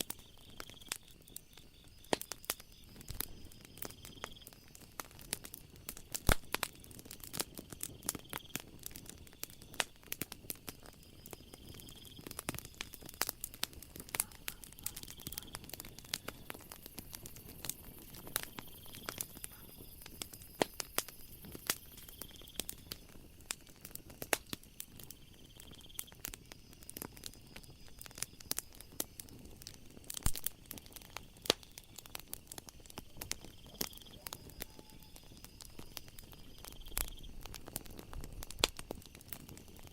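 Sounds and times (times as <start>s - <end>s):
night insects chirping: 0.0s - 39.9s
wood fire crackling and popping: 0.0s - 39.9s.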